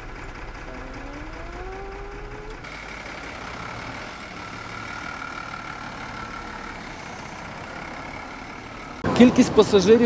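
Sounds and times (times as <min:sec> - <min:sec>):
minibus engine humming: 0:00.0 - 0:10.0.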